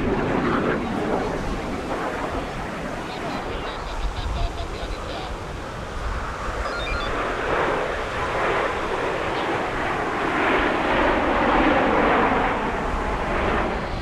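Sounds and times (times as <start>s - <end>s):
aircraft flying past: 0.0s - 14.0s.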